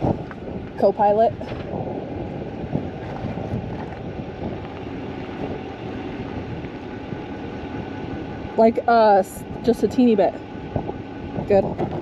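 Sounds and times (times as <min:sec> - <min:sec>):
vehicle running: 0:00.0 - 0:12.0
wind buffeting microphone: 0:00.0 - 0:12.0.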